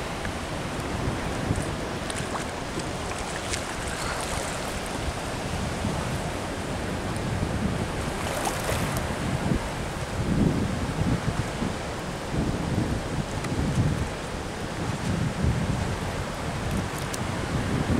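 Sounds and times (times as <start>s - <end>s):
choppy sea water: 0.0s - 17.9s
wind noise on microphone: 0.0s - 17.9s.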